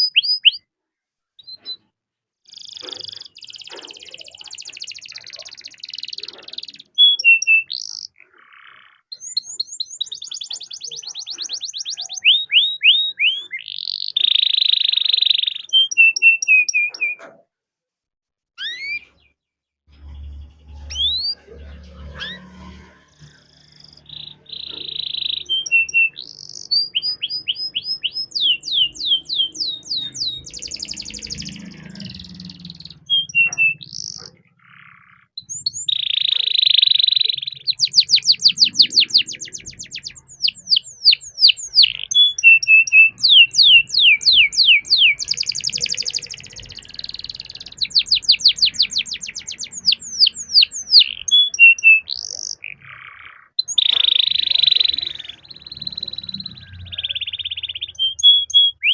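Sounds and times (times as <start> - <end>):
canary singing trills: 0.0 - 0.6, 1.4 - 1.9, 2.5 - 17.4, 18.6 - 58.9.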